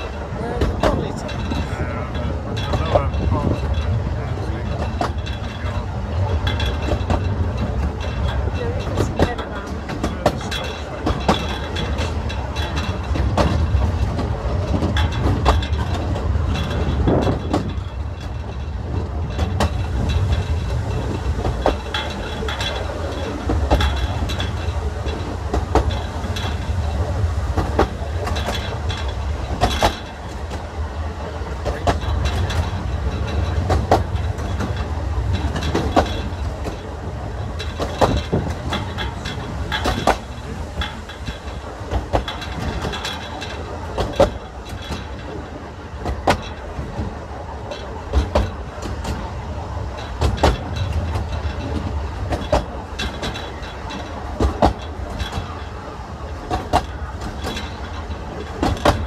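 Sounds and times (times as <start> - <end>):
railway coach rumbling and clanking: 0.0 - 59.0
wheels clicking over rail joint: 0.0 - 59.0.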